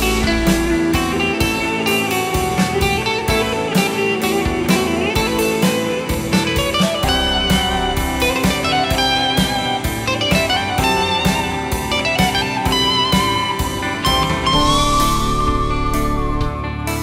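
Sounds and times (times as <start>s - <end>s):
bass guitar: 0.0s - 17.0s
electric guitar lead melody: 0.0s - 17.0s
steady drum beat: 0.0s - 17.0s.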